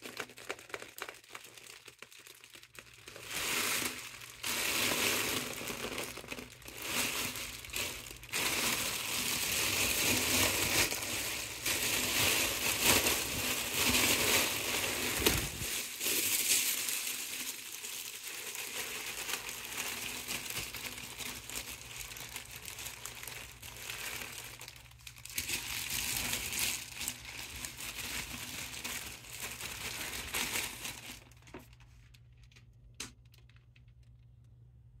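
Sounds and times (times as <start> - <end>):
foil balloon crinkling: 0.0 - 34.0.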